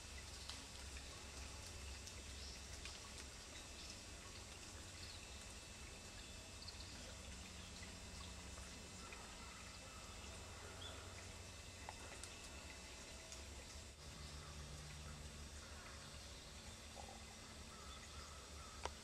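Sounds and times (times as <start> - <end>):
low hiss and hum: 0.0 - 19.0.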